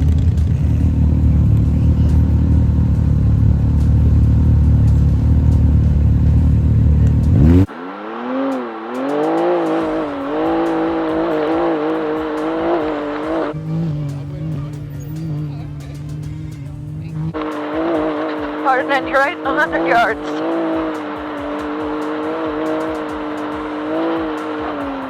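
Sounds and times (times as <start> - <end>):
low engine and drivetrain rumble: 0.0 - 19.6, 20.2 - 25.0
engine revving at speed: 0.0 - 25.0.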